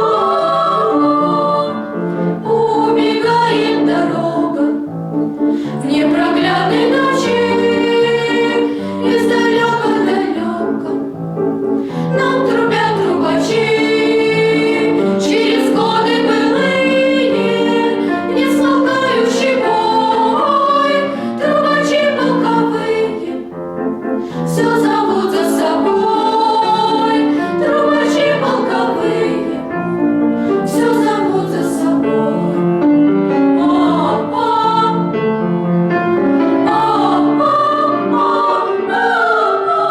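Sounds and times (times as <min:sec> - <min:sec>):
vocal ensemble singing: 0:00.0 - 0:39.9.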